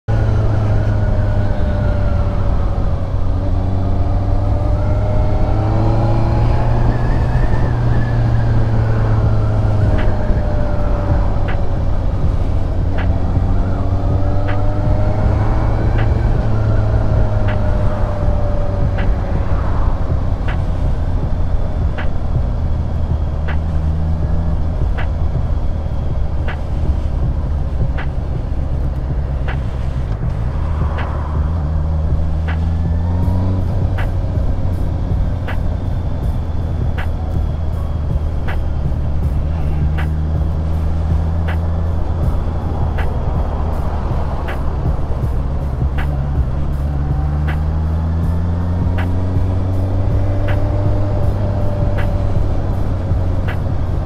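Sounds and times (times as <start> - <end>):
road noise: 0.0 - 54.0
motorcycle engine running: 0.1 - 54.0
wind: 0.1 - 54.0.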